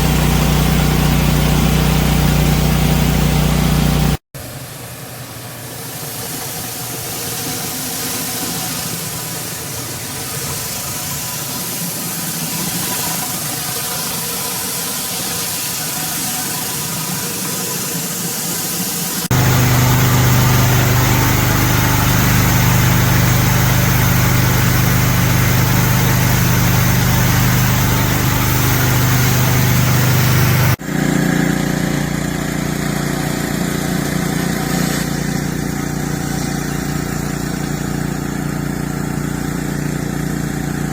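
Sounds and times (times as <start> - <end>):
pressure washer running: 0.0 - 40.9.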